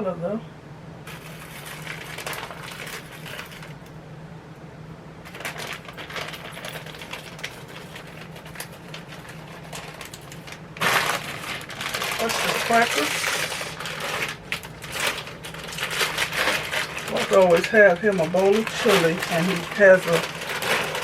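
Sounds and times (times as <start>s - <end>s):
steady low hum: 0.0s - 21.0s
shredded cheese crinkling: 1.1s - 3.9s, 5.3s - 21.0s.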